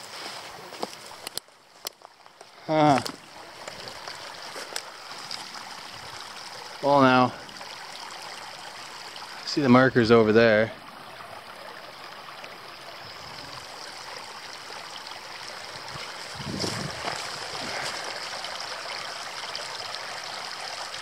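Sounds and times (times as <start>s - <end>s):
creek water trickling and gurgling: 0.0s - 21.0s.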